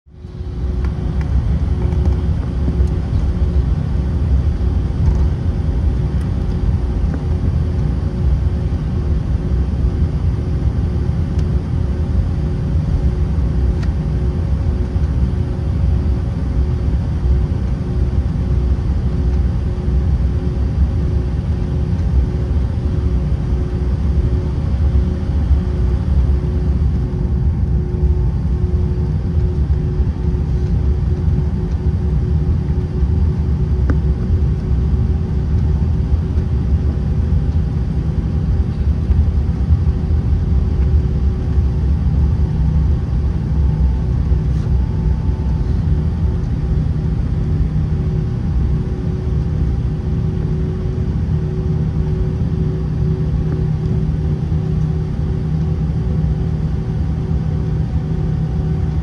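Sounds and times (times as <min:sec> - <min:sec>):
airliner cabin rumble: 0:00.1 - 0:59.0
faint steady hum: 0:00.1 - 0:59.0.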